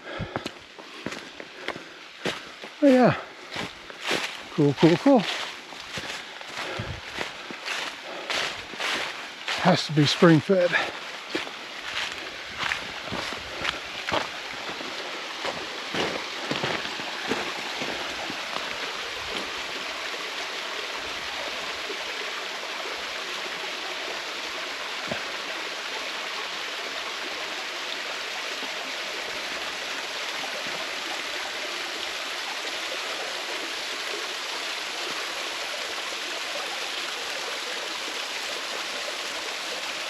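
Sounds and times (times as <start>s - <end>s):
small waterfall splashing: 0.0s - 40.0s.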